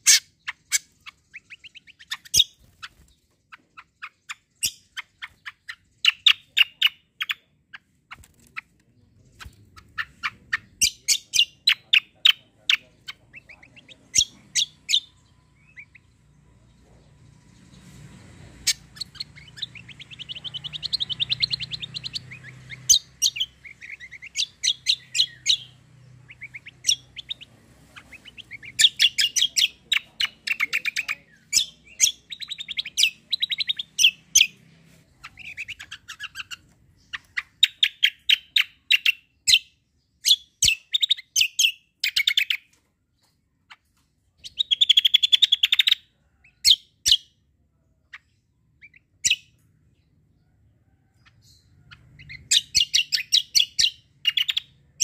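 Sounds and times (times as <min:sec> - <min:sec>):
songbird trilling and chirping: 0:00.0 - 0:55.0.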